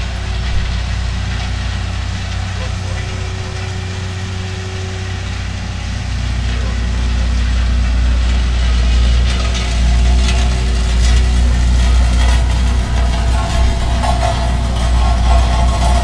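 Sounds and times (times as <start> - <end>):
road roller engine rumble: 0.0 - 16.0.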